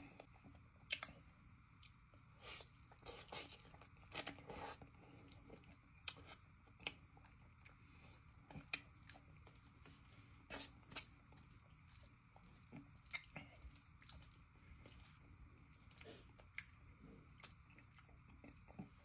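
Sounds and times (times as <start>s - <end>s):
soft chewing with wet smacks: 0.0s - 19.0s.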